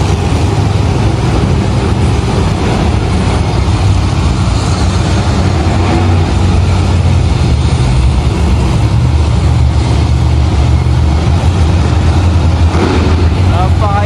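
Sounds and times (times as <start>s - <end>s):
monster truck engine rumbling: 0.0s - 14.0s.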